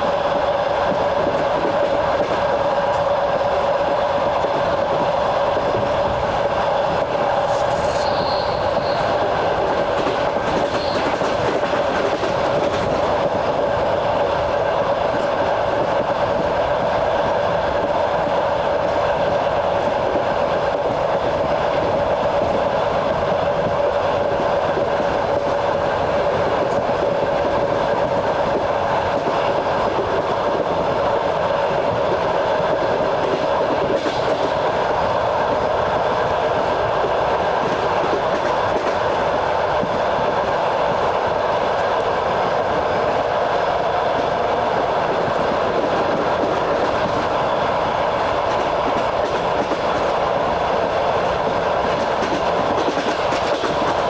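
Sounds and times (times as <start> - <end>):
train wheels clattering: 4.4 - 14.3, 19.8 - 54.0.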